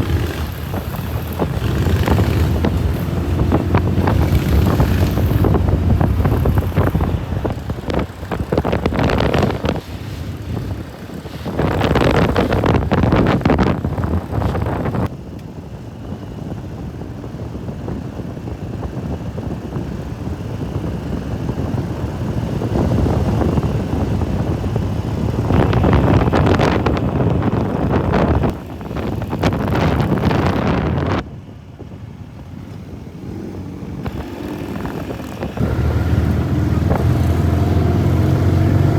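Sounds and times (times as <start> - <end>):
motorcycle engines: 0.0 - 38.9
wind buffeting microphone: 0.0 - 38.9.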